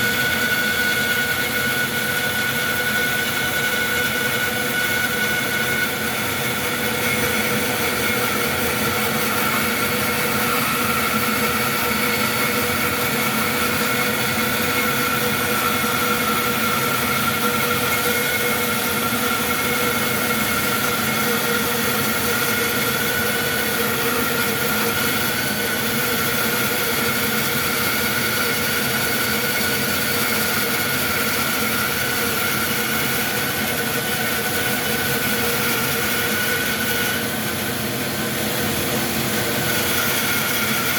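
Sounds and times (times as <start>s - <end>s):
bandsaw cutting wood: 0.0s - 40.9s.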